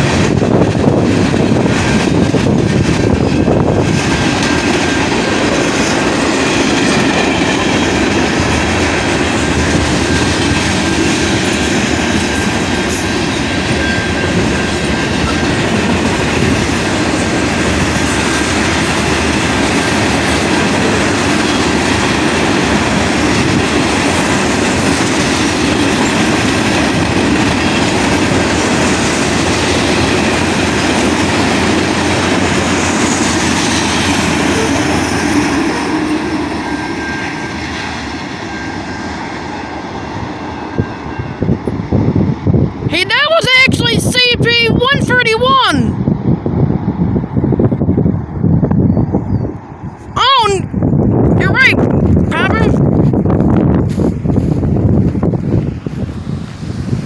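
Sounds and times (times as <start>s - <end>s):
train cars rolling on track: 0.0s - 57.0s.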